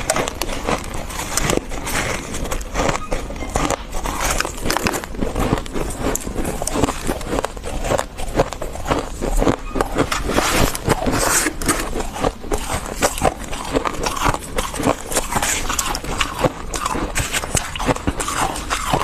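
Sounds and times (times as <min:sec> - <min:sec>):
freezer frost crunching: 0:00.0 - 0:19.0.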